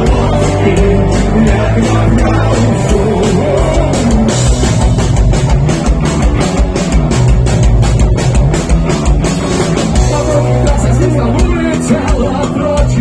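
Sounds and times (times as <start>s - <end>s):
drum-kit beat: 0.0s - 13.0s
electric guitar: 0.0s - 13.0s.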